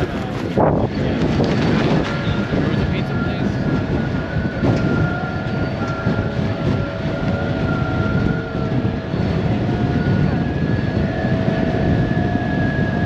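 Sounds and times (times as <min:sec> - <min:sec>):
ship engine rumble: 0:00.0 - 0:13.0.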